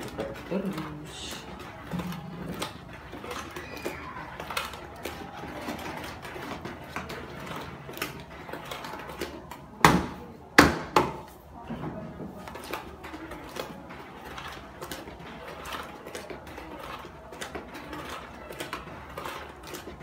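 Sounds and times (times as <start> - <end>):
stick stirring thick batter: 0.0 - 20.0.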